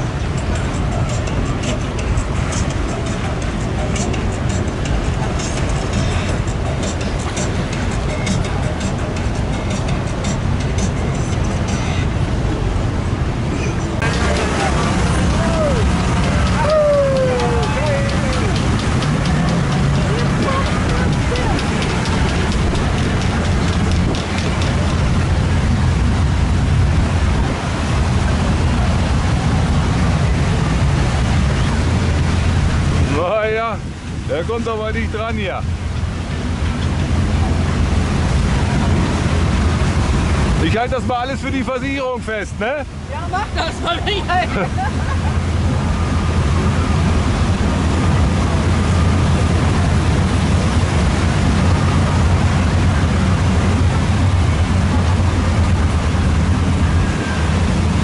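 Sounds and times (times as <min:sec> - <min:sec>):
motorboat engines rumbling: 0:00.0 - 0:58.0
rushing sea water: 0:00.0 - 0:58.0
wind buffeting microphone: 0:00.0 - 0:58.0.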